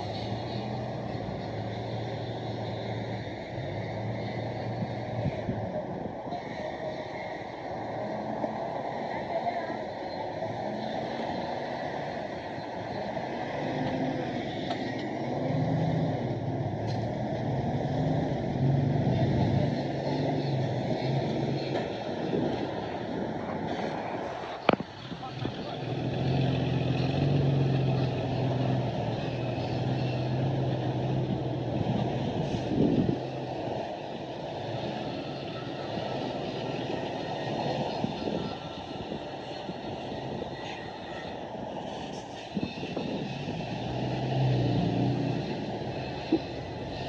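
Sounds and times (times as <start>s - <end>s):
diesel engine of heavy machinery: 0.0s - 47.0s.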